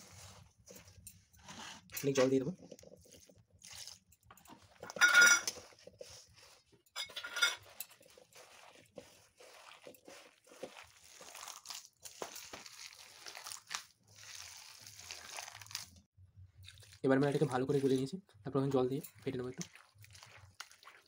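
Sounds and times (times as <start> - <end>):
hand squishing wet vegetables: 0.0 - 21.0.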